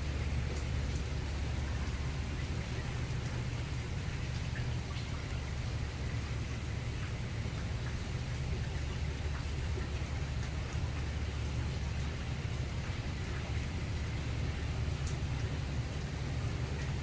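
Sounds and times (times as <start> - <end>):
drips ticking: 0.0 - 17.0
rain falling: 0.0 - 17.0.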